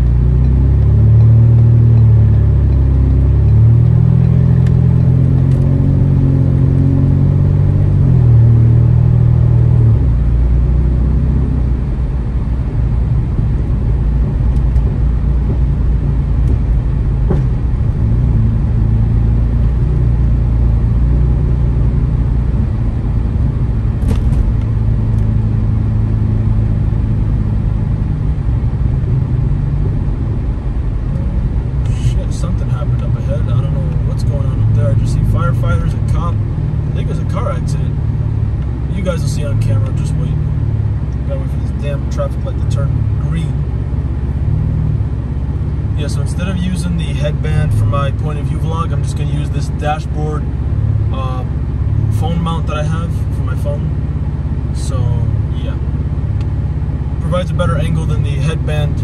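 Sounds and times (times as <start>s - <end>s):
car engine and exhaust rumble: 0.0s - 59.0s
road noise: 0.0s - 59.0s.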